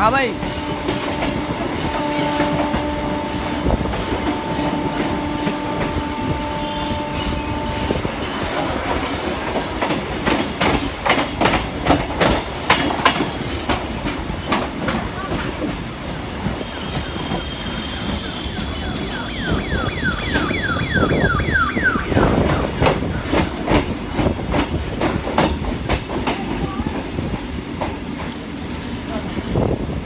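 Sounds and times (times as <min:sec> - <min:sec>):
train humming: 0:00.0 - 0:30.0
train wheels clattering: 0:00.4 - 0:29.7.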